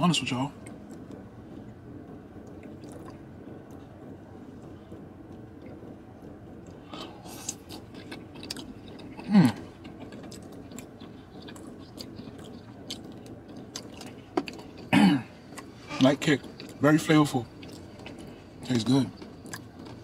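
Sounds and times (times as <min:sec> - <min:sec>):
low hum in car cabin: 0:00.0 - 0:20.0
man chewing food: 0:00.6 - 0:20.0.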